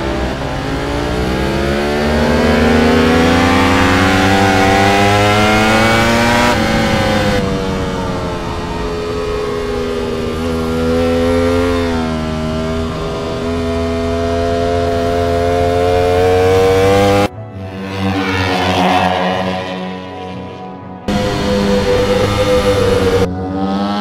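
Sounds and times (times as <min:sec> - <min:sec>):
motorcycle engine at high revs: 0:00.0 - 0:20.3, 0:21.1 - 0:24.0.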